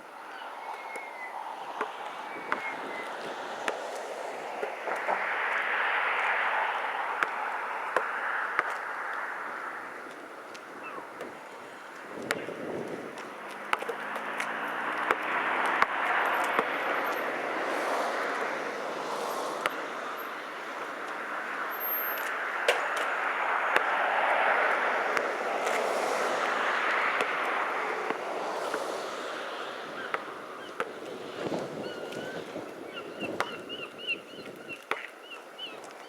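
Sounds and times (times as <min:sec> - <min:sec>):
wind gusting over microphone: 0:00.0 - 0:36.0.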